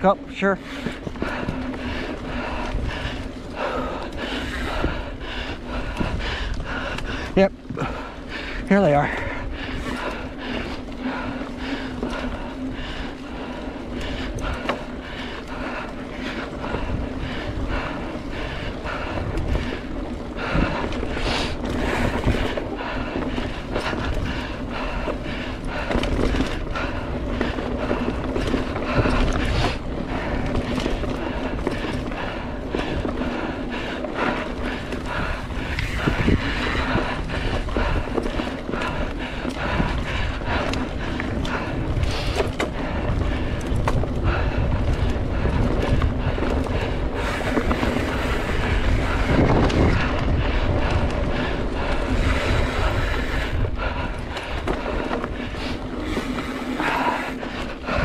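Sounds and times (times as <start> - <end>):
bike tyres rolling on dirt: 0.0 - 58.0
wind on microphone: 0.8 - 58.0.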